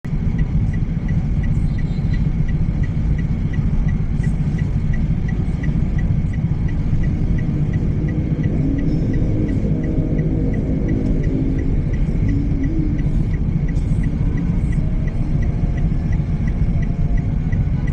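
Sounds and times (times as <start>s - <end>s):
car engine and road rumble: 0.0s - 17.9s
turn signal ticking: 0.0s - 17.9s.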